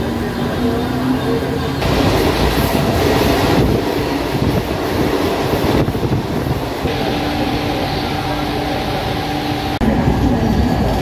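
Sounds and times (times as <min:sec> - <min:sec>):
steady train whine: 0:00.0 - 0:11.0
train rumble and rattle: 0:00.0 - 0:11.0.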